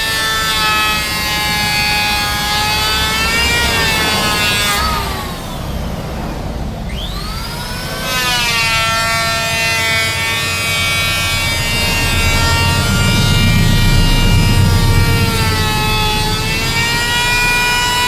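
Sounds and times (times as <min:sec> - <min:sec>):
low rumble: 0:00.0 - 0:18.0
power tool motor whine: 0:00.0 - 0:18.0.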